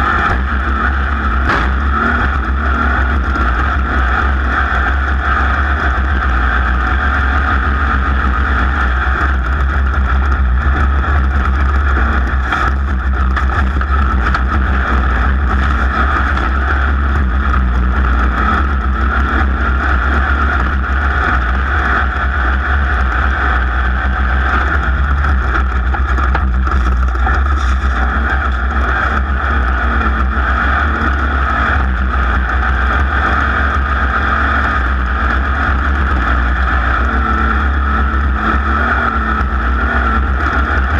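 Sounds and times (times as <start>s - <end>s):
racing engine drone: 0.0s - 40.9s.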